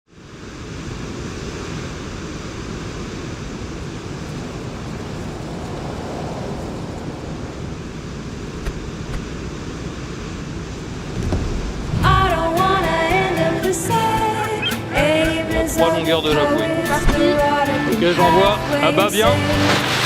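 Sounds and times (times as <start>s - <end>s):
rush of wind and water: 0.1s - 20.0s.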